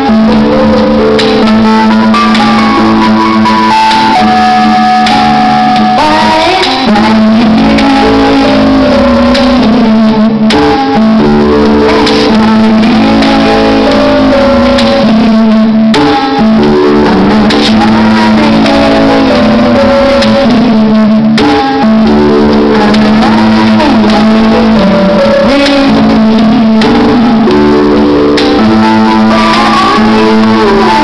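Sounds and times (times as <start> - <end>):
loud live guitar music: 0.0 - 31.0.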